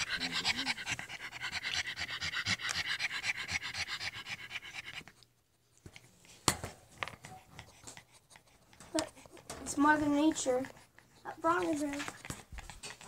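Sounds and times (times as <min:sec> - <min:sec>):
dog panting rapidly: 0:00.0 - 0:05.3, 0:07.2 - 0:13.0.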